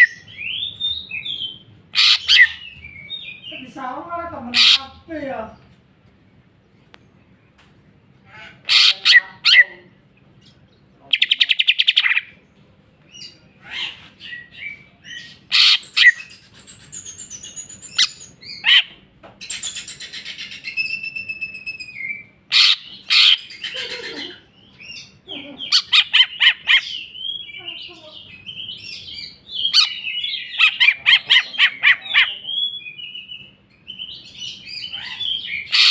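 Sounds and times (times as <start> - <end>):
bird singing varied song: 0.0 - 35.9.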